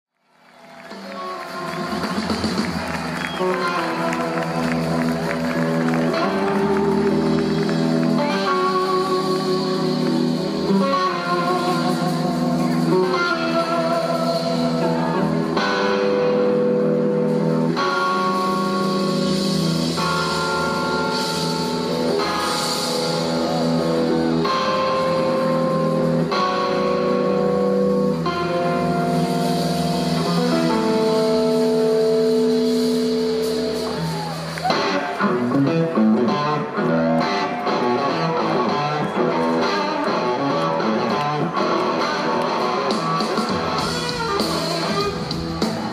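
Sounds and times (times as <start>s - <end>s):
blues-rock band playing: 0.6s - 45.9s
electric guitar held notes: 0.8s - 45.9s.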